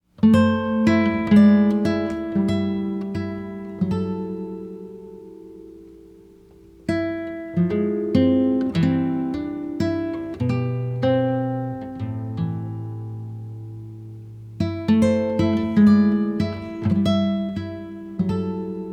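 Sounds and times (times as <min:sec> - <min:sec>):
acoustic guitar music: 0:00.0 - 0:18.9.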